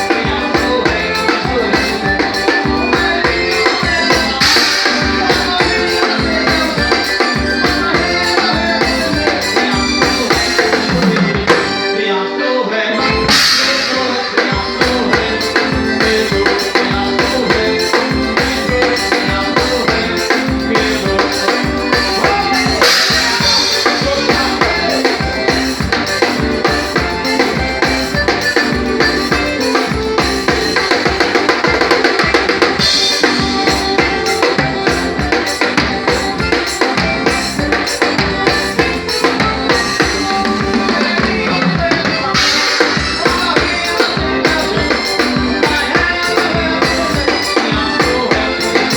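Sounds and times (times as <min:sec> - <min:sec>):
live band music: 0:00.0 - 0:48.9.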